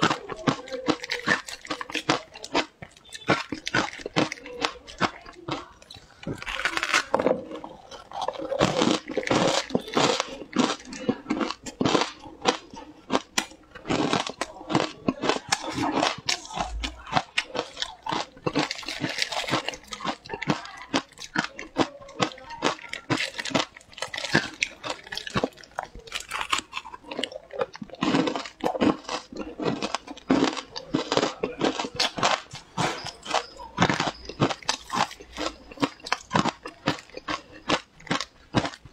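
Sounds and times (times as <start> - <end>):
ice being crunched and chewed: 0.0 - 38.9.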